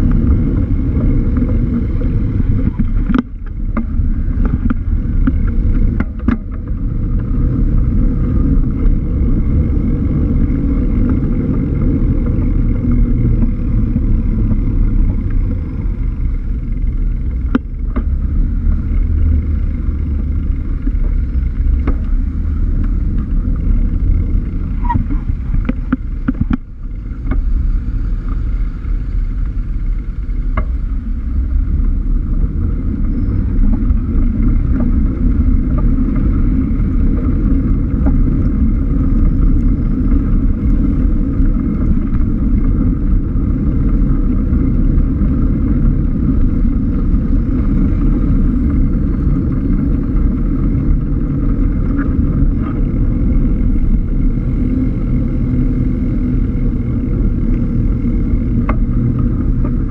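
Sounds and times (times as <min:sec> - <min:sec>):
road traffic: 0:00.0 - 0:59.9
wind rumbling on microphone: 0:00.0 - 0:59.9.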